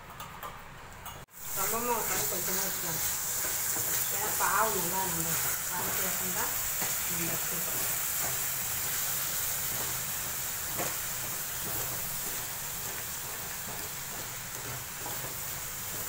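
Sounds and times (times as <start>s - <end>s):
syrup boiling with a hiss: 1.3s - 16.0s.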